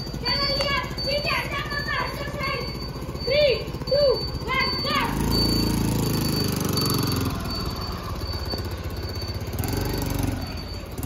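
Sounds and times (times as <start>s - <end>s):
faint high beep: 0.0s - 11.0s
scooter engine running: 0.0s - 11.0s.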